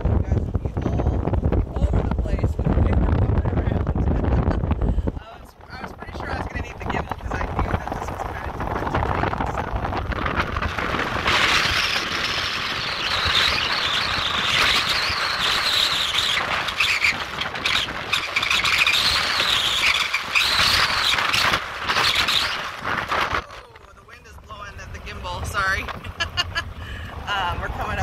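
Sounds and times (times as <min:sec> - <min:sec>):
vehicle driving on dirt road: 0:00.0 - 0:28.0.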